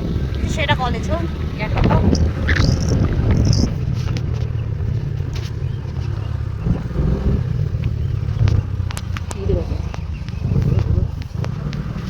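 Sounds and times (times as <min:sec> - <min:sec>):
road vehicle rumble: 0:00.0 - 0:12.0
wind buffeting microphone: 0:00.0 - 0:12.0.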